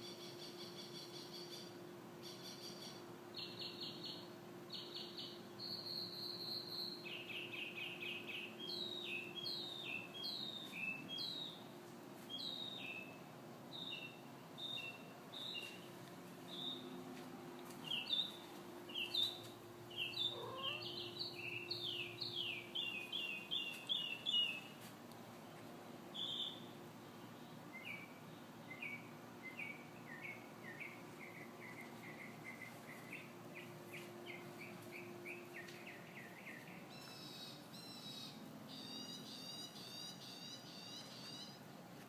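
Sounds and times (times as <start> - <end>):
songbird singing trills: 0.0 - 11.7, 12.3 - 15.9, 16.5 - 17.0, 17.8 - 24.8, 26.1 - 41.6
faint steady hum: 0.0 - 42.0.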